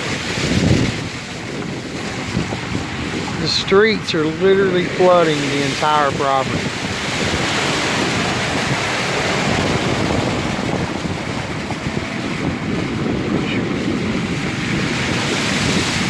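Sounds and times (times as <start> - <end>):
floodwater rushing over pavement: 0.0 - 16.0
wind buffeting microphone: 0.0 - 16.0.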